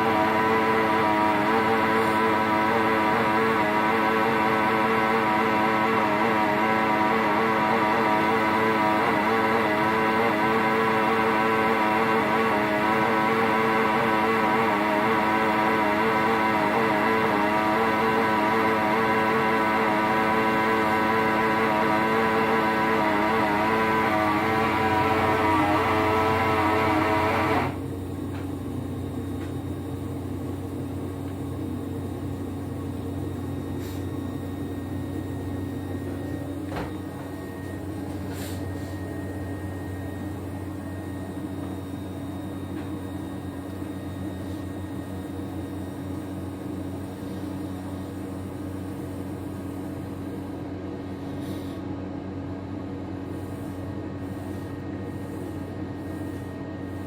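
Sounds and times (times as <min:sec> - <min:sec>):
faint whining tones: 0:00.0 - 0:50.2
steady machine hum: 0:00.0 - 0:57.0.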